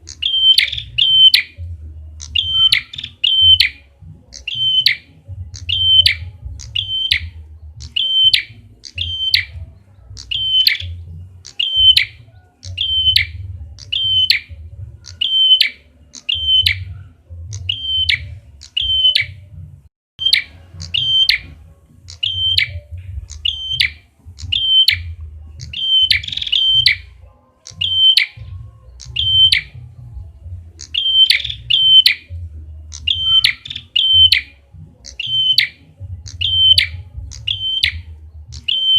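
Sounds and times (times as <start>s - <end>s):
high chirping bird call: 0.0s - 19.6s, 20.2s - 38.9s.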